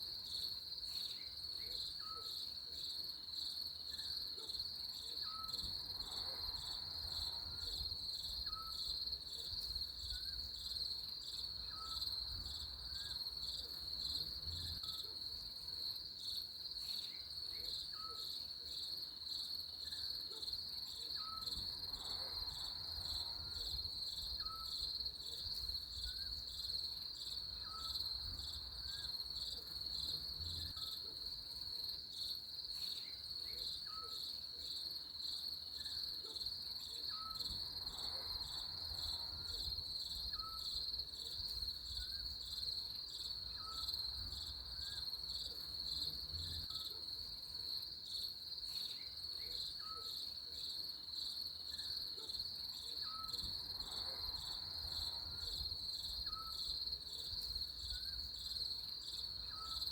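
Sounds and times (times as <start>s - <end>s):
crickets chirring: 4.8s - 59.9s.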